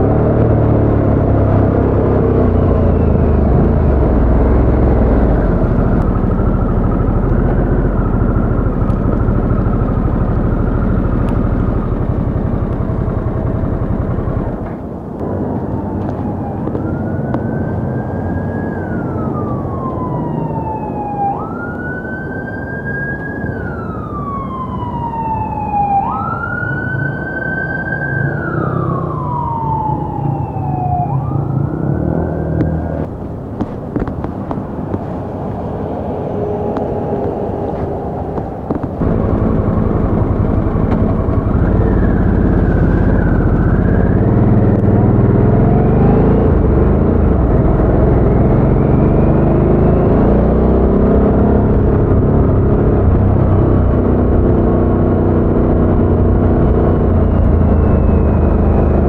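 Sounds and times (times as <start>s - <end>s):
emergency siren wailing: 0.0s - 59.0s
motorcycle engine rumble: 0.0s - 59.0s.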